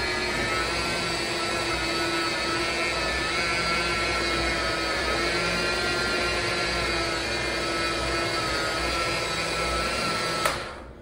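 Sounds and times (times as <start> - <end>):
washing machine motor whining: 0.0 - 11.0.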